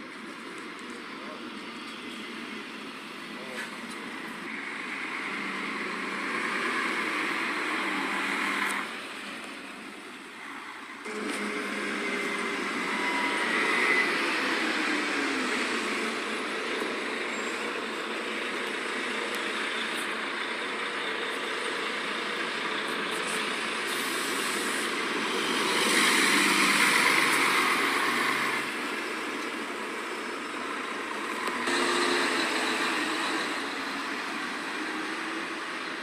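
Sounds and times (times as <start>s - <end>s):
bus driving past: 0.0s - 36.0s
distant bus moving off: 0.0s - 36.0s.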